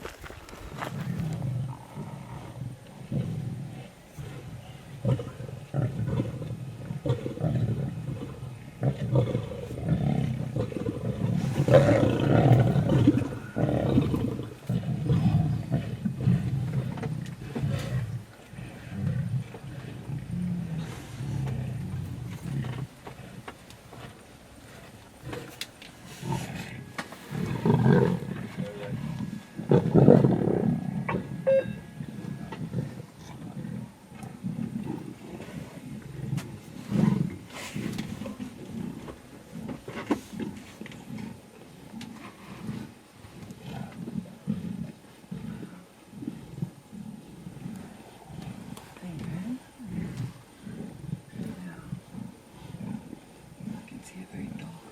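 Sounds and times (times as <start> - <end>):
lions growling: 0.7 - 54.9.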